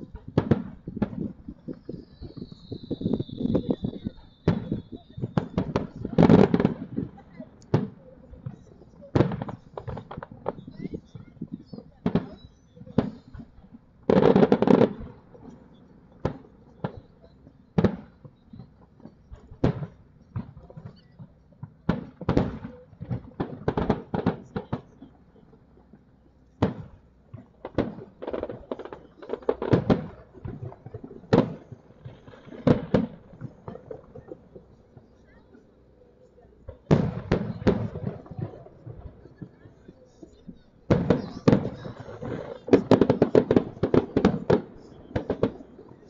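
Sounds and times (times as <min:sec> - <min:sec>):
firework bangs: 0:00.0 - 0:21.0, 0:21.6 - 0:25.1, 0:26.6 - 0:46.0.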